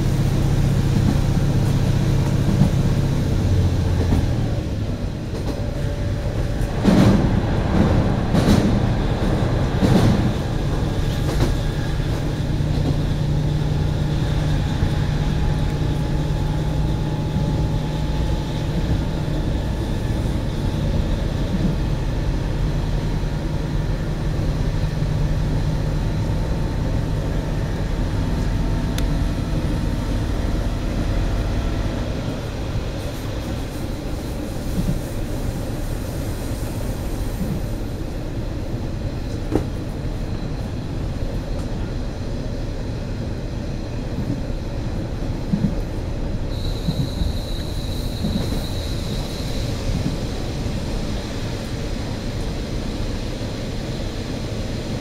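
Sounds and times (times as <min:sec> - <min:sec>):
wheel and track rumble: 0:00.0 - 0:55.0.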